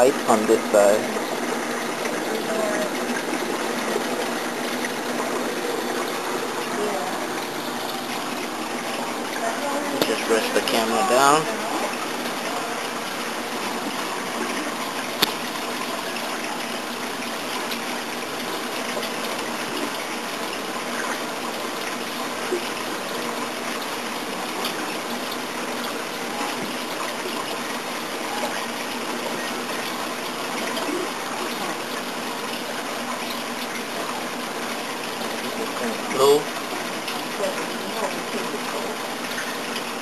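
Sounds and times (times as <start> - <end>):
aquarium water rushing and trickling: 0.0 - 40.0.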